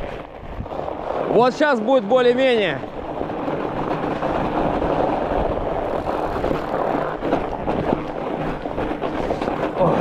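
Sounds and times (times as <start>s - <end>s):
fat bike tyres humming: 0.0s - 10.0s
wind buffeting microphone: 0.0s - 10.0s.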